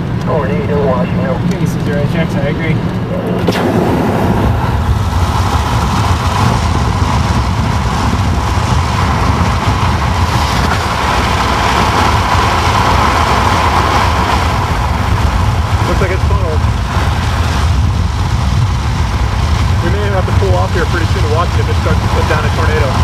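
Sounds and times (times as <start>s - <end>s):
tyre and engine rumble: 0.0s - 23.0s
wind noise: 0.0s - 23.0s.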